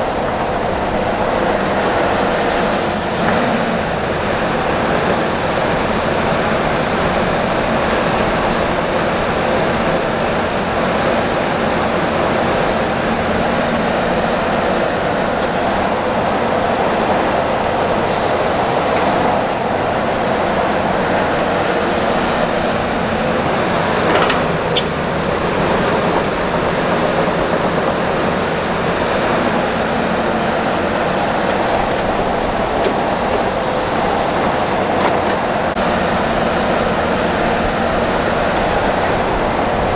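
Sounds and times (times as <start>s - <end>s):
heavy machinery rumble: 0.0s - 39.9s.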